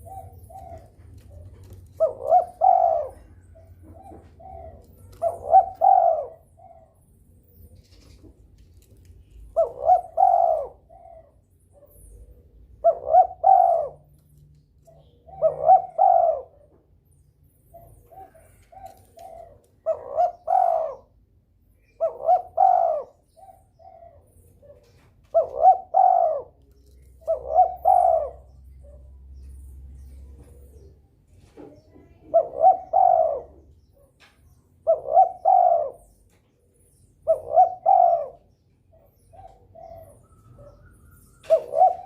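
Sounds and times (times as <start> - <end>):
dove cooing: 0.0 - 42.0.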